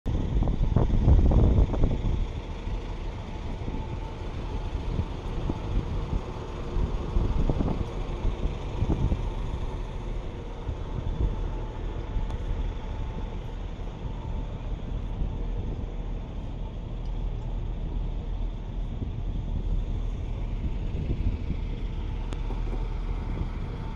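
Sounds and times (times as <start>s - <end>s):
low gusts: 0.1s - 23.9s
train diesel engine idling: 0.1s - 23.9s.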